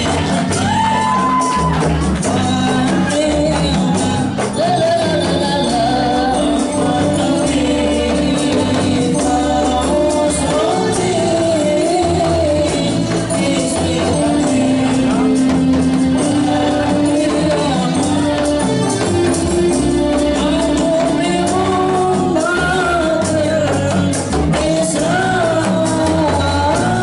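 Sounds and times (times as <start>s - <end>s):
frame drums and jingles: 0.0s - 27.0s
person singing ornamented melody: 2.6s - 27.0s.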